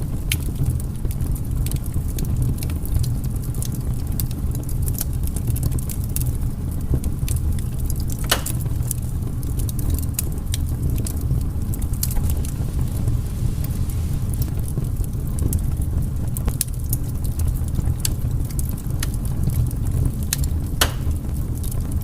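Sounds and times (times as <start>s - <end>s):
firewood crackling: 0.0s - 22.0s
steady low rumble: 0.0s - 22.0s.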